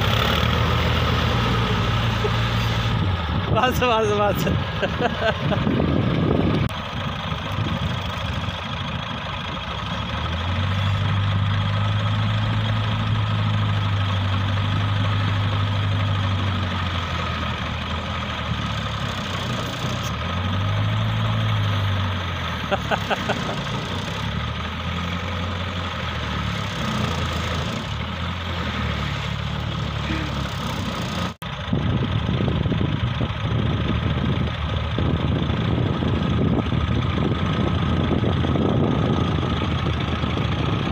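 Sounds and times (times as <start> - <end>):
car engine under load: 0.0 - 40.9
tractor engine under load: 0.0 - 40.9.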